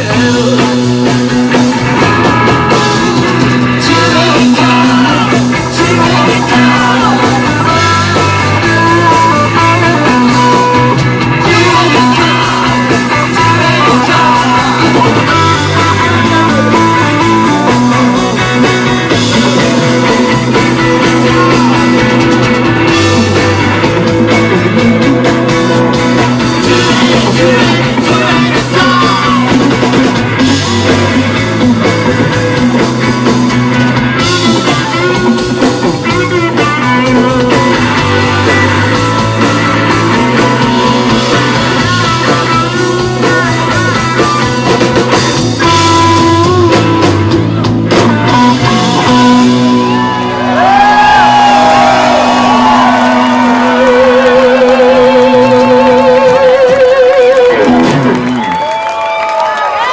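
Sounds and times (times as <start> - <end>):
distorted electric guitars: 0.0 - 59.9
drums: 0.0 - 59.9
electric bass: 0.0 - 59.9
live rock band playing: 0.0 - 59.9.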